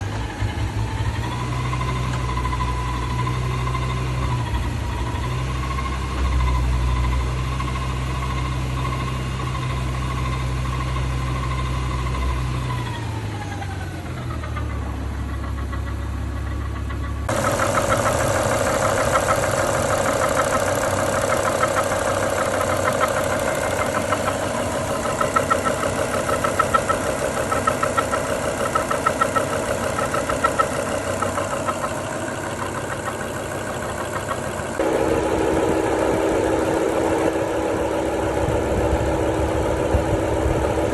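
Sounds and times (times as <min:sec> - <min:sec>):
car engine whining: 0:00.0 - 0:40.9.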